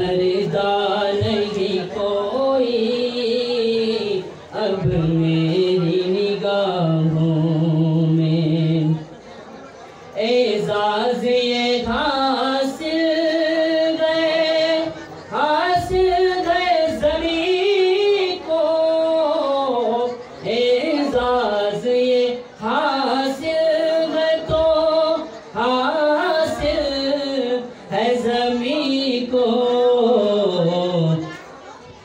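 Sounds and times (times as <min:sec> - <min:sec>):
man singing through a microphone: 0:00.0 - 0:09.2, 0:10.1 - 0:31.6.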